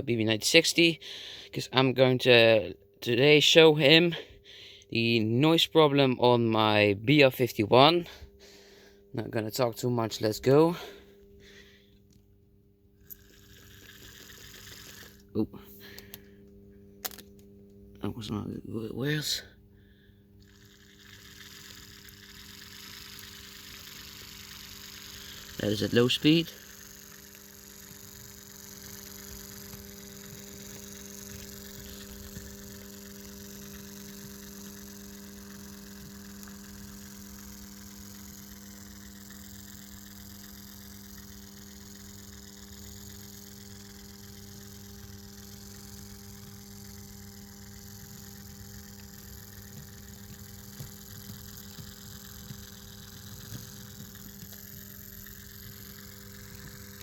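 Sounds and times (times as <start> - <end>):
electric motor humming: 9.8 - 57.0.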